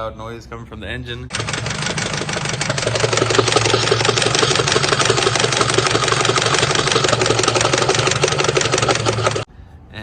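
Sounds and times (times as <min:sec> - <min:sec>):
car engine idling: 0:01.3 - 0:09.5
fast clattering engine tick: 0:01.3 - 0:09.5.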